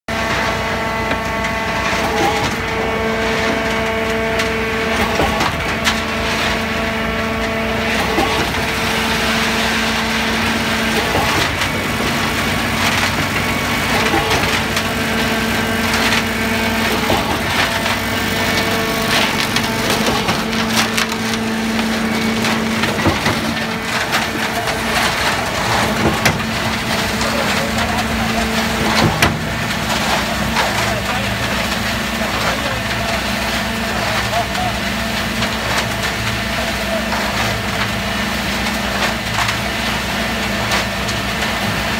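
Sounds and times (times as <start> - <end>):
concrete pump machine hum: 0.1 - 41.9
concrete rattling in mixing drum: 0.1 - 41.9.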